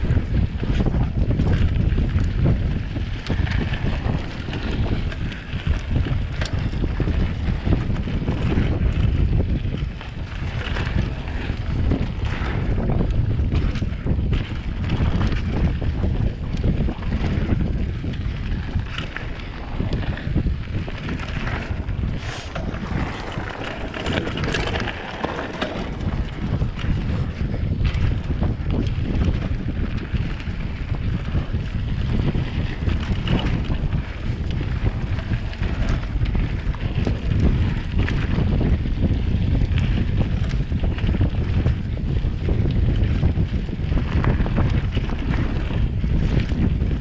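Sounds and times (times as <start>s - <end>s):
bike rattling over bumps: 0.0s - 47.0s
wind rumbling on microphone: 0.0s - 47.0s.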